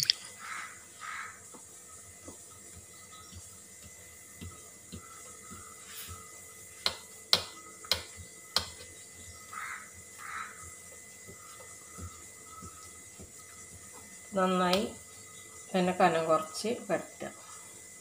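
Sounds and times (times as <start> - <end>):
rolling pin rubbing over dough: 1.9 - 17.9.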